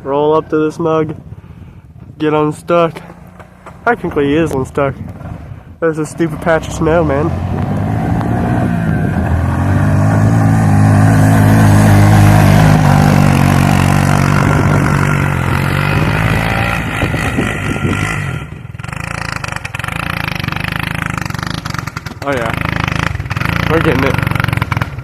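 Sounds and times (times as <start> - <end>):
quad bike engine revving: 3.0 - 25.0.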